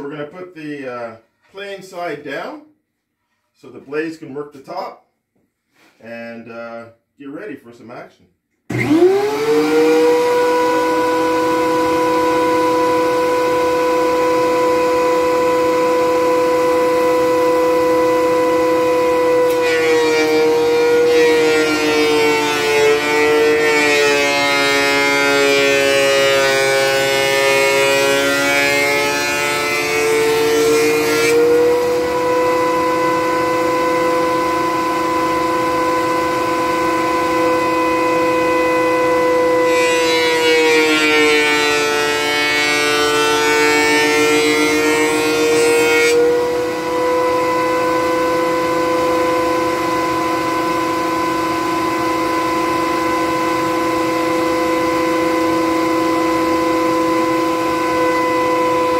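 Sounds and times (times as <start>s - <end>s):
planer cutting wood board: 8.7s - 58.9s
planer motor whine: 8.7s - 58.9s.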